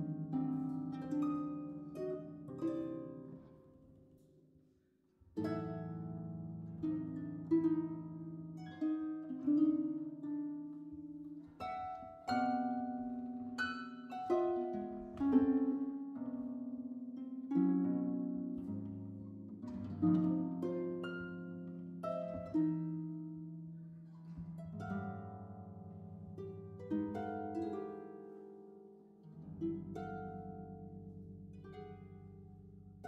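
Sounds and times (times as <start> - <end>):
harps playing: 0.0 - 4.2, 5.4 - 33.0.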